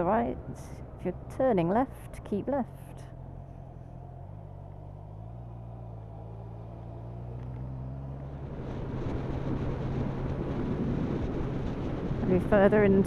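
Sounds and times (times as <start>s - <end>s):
motorcycle engine running: 0.0s - 13.0s
wind and road rush: 0.0s - 13.0s.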